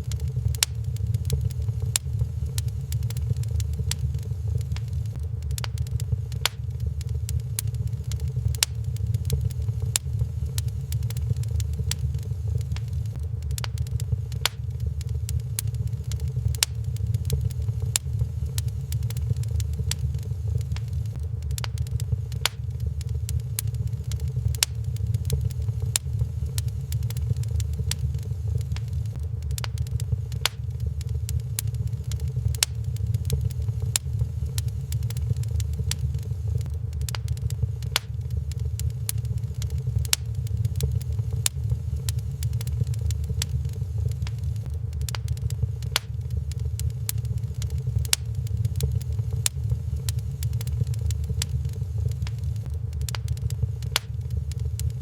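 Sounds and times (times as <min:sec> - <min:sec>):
low fire rumble: 0:00.0 - 0:55.0
wood fire crackling: 0:00.0 - 0:55.0.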